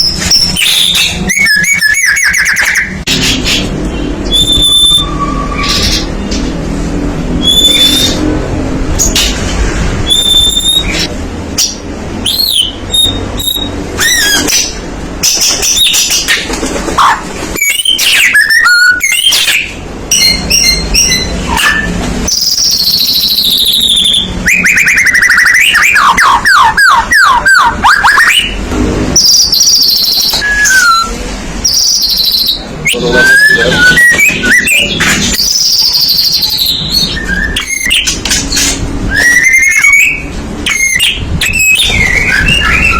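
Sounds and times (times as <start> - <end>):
songbird whistling and trilling: 0.0 - 6.3, 7.4 - 8.3, 10.1 - 16.3, 17.0 - 28.6, 29.2 - 38.2, 39.1 - 42.9.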